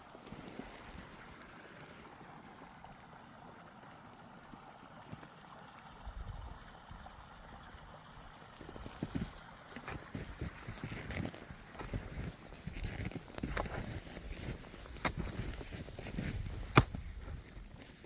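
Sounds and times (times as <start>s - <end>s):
skis sliding over snow: 0.0s - 6.0s, 7.6s - 18.0s.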